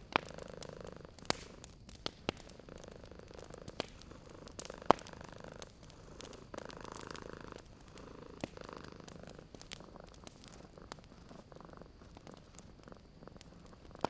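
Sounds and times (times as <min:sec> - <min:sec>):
cat purring: 0:00.0 - 0:14.0
wood fire crackling: 0:00.0 - 0:14.0.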